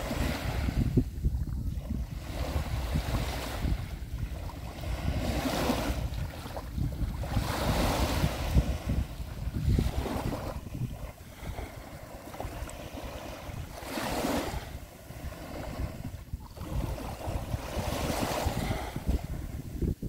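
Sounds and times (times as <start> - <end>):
small waves washing onto shore: 0.0 - 20.0
wind buffeting microphone: 0.0 - 20.0.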